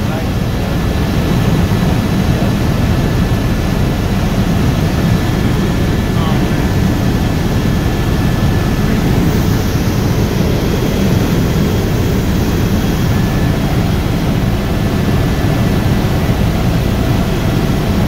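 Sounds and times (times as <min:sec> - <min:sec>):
helicopter engine and rotor: 0:00.0 - 0:18.0.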